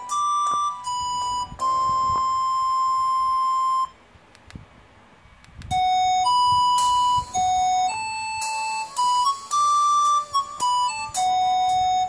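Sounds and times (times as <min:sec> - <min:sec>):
electronic ringtone: 0:00.0 - 0:04.0, 0:05.7 - 0:12.0.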